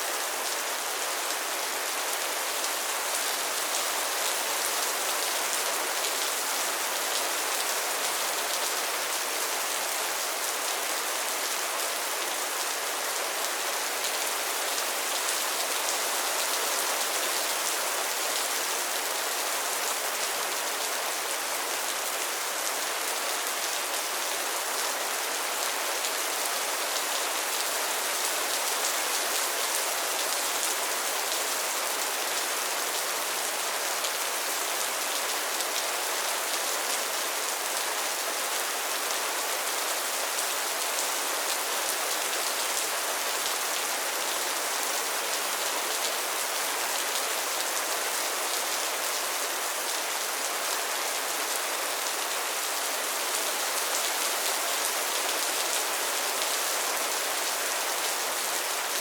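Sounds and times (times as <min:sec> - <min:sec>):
rain falling on a pond: 0:00.0 - 0:59.0.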